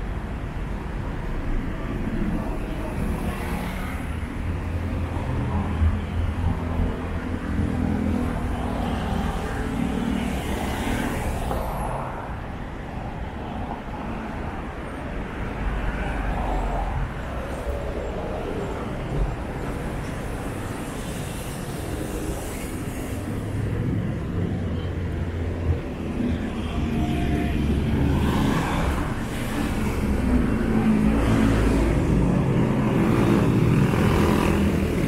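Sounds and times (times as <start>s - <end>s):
traffic passing: 0.0s - 35.0s.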